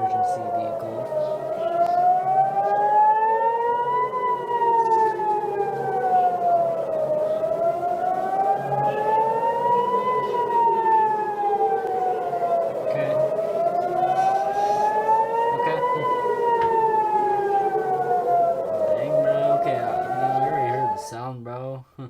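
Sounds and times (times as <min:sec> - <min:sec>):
warning siren wailing: 0:00.0 - 0:21.3.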